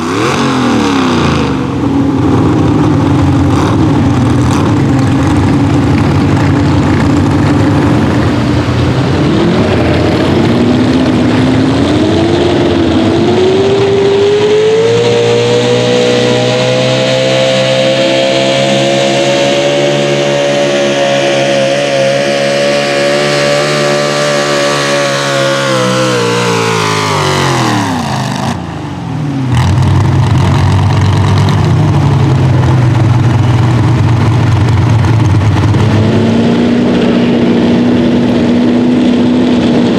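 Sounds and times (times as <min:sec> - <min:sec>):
truck engine at high revs: 0:00.0 - 0:39.9.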